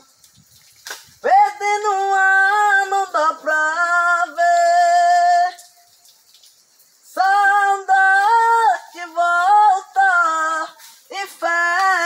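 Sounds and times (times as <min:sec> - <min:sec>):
person singing unaccompanied: 0:01.2 - 0:06.2, 0:06.9 - 0:12.0.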